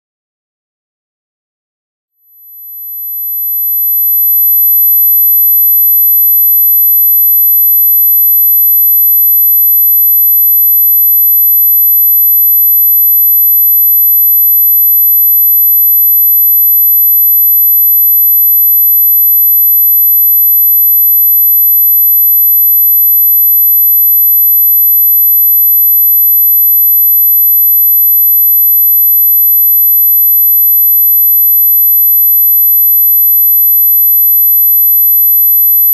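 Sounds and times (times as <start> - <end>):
high-pitched sine tone: 2.2 - 35.9.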